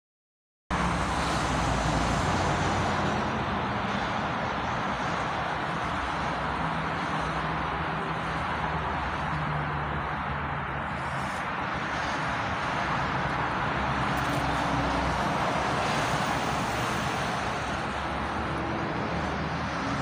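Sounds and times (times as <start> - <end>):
road traffic noise: 0.7 - 20.0.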